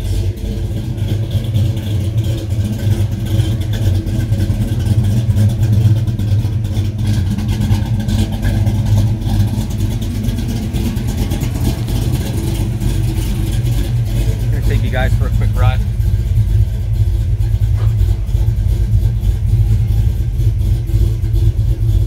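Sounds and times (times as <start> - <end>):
engine with deep exhaust note: 0.0 - 22.0.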